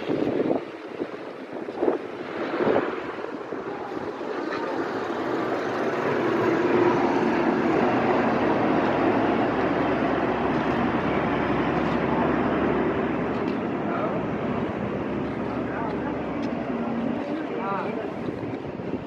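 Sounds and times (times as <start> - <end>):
boat engine drone: 0.0 - 19.0
wind: 0.0 - 19.0.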